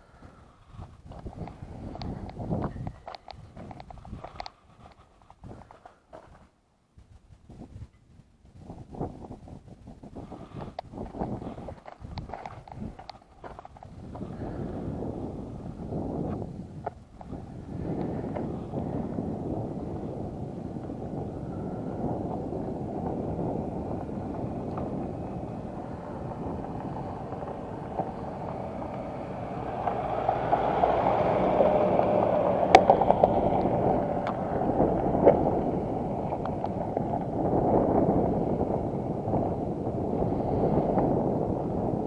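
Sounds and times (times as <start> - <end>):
motorcycle riding: 0.0 - 6.5, 10.2 - 42.0
wind rumbling on microphone: 0.0 - 42.0.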